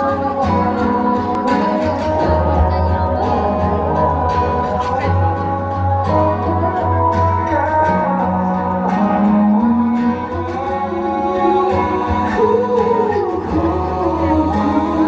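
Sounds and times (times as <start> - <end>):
live band with guitar: 0.0 - 15.0
person singing: 0.0 - 15.0.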